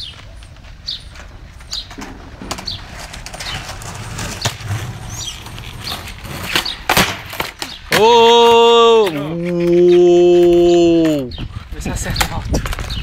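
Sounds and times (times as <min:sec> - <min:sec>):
skateboard wheels rolling on paving: 0:00.0 - 0:13.0.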